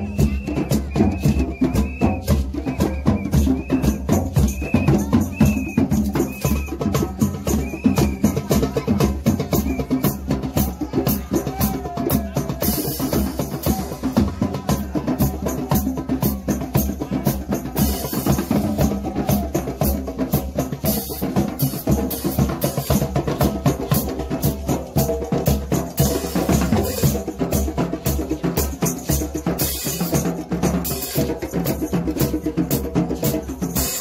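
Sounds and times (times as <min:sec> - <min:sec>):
drum circle playing: 0:00.0 - 0:34.0.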